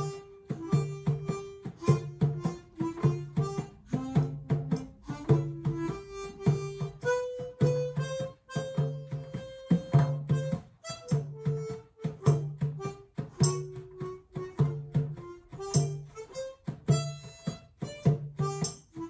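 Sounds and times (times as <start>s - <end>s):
harmonica melody: 0.0s - 19.0s
talking drum tones: 0.0s - 19.0s.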